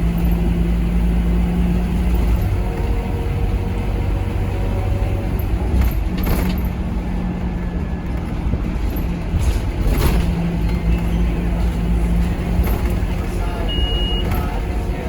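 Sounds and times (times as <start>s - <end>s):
bus engine low hum: 0.0s - 15.0s
bus rattling: 0.0s - 15.0s.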